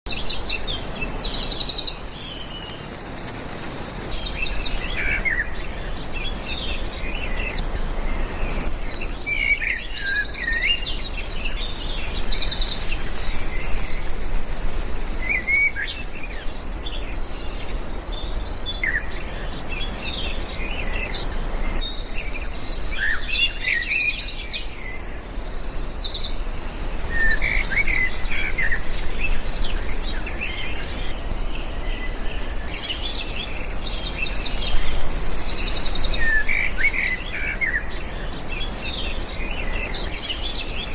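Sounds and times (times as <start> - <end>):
birds chirping and calling: 0.1 - 40.9
steady background hiss: 0.1 - 40.9.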